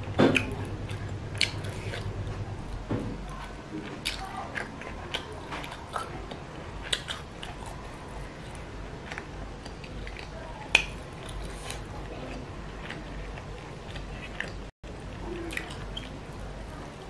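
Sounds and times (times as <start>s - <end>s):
person chewing noodles: 0.3s - 17.0s.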